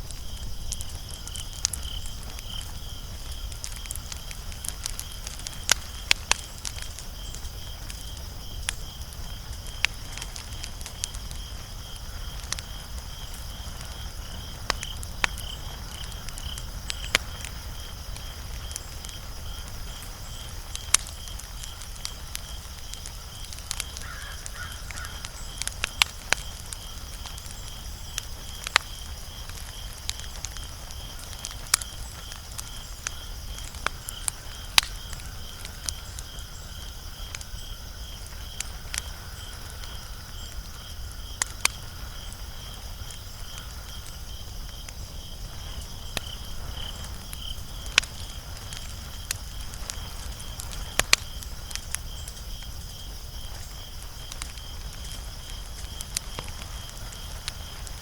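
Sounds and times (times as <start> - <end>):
low hiss of burning: 0.0 - 58.0
wood fire crackling and popping: 0.0 - 58.0.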